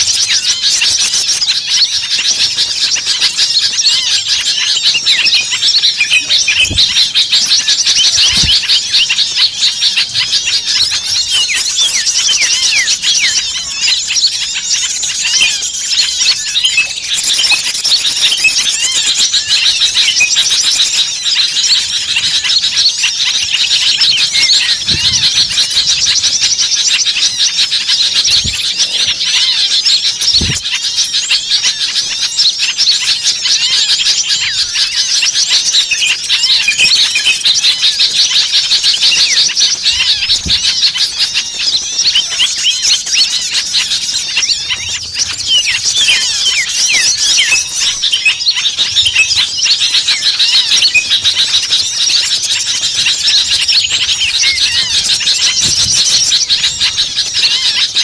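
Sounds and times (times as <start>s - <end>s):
flock of songbirds chirping: 0.0s - 58.0s.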